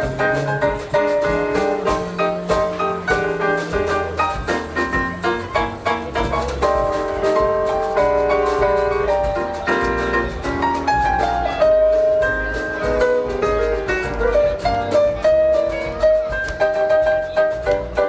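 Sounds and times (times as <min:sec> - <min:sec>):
jazz band playing: 0:00.0 - 0:18.0.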